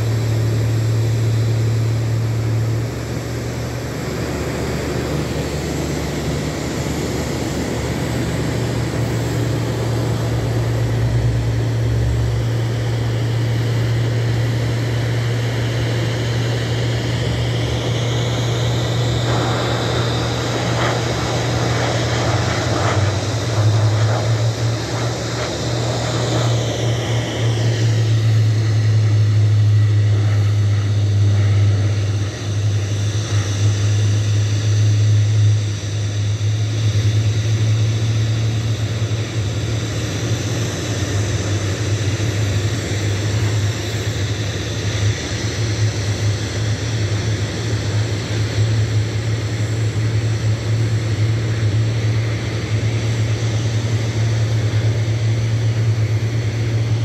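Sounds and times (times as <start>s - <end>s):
jet engine hum and whine: 0.0s - 57.0s.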